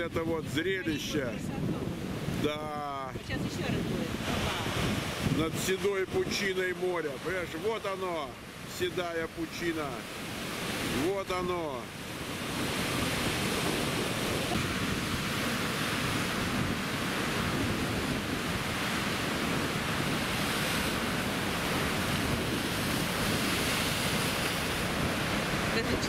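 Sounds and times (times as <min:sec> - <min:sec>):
storm surf breaking on rocks: 0:00.0 - 0:26.0
wind buffeting microphone: 0:00.0 - 0:26.0.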